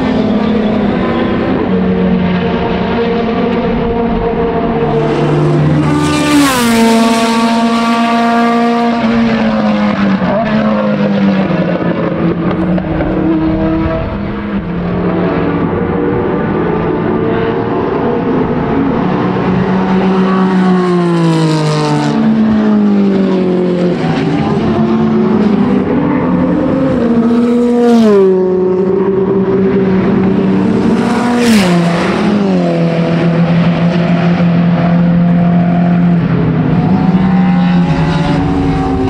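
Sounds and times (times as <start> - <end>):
racing car engines passing: 0.0 - 39.0.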